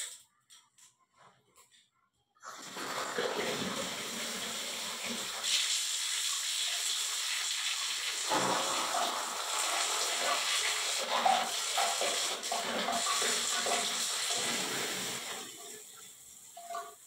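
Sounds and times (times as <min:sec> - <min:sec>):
water rushing from a spout: 0:02.5 - 0:17.0.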